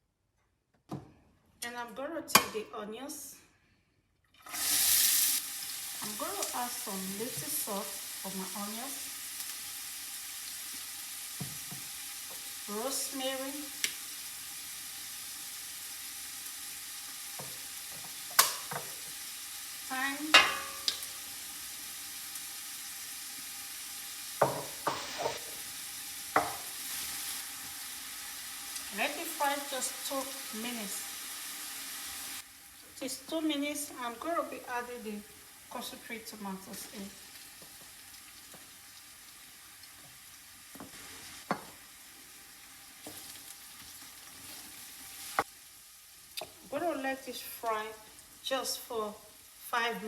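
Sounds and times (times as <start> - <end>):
onions sizzling in oil: 4.4 - 50.0.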